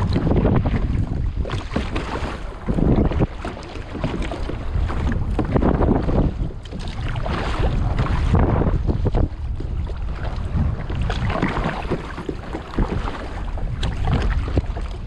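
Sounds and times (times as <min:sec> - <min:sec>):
water splashing around kayak: 0:00.0 - 0:15.0
wind buffeting microphone: 0:00.0 - 0:15.0.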